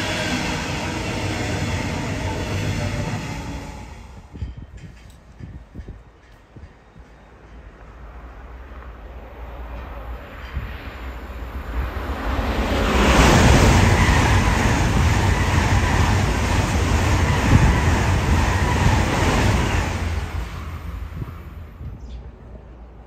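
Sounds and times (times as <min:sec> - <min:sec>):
train passing by rumbling: 0:00.0 - 0:23.0.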